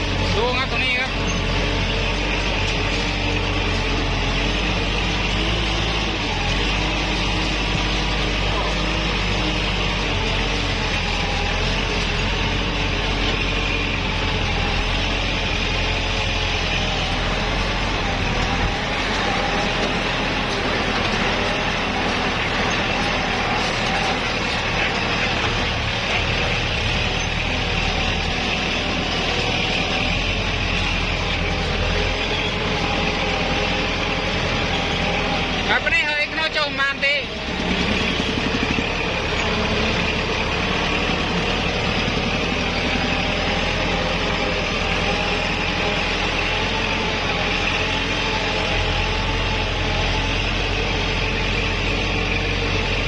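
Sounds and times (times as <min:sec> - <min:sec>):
straw baler clattering: 0:00.0 - 0:53.0
tractor diesel engine running: 0:00.0 - 0:53.0.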